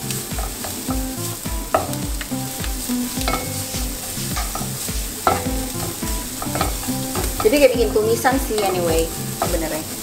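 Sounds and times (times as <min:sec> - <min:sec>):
soft low beat: 0:00.0 - 0:09.6
food sizzling in hot oil: 0:00.0 - 0:10.0
spatula scraping a wok: 0:00.4 - 0:10.0.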